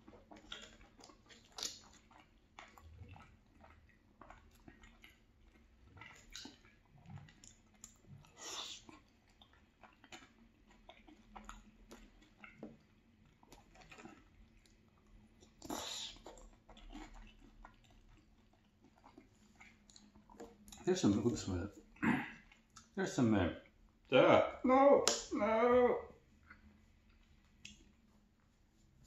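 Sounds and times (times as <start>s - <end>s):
wet mouth clicks and smacks: 0.0s - 21.3s, 22.5s - 23.0s, 25.0s - 25.3s, 26.4s - 28.0s
close-up chewing: 0.0s - 25.3s, 25.9s - 29.0s.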